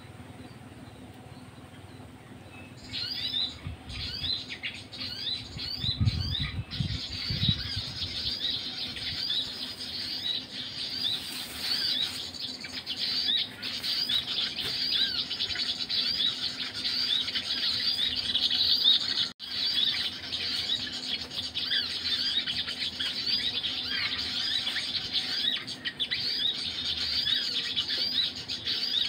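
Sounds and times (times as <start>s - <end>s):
recorded bird chirps: 0.0s - 29.0s.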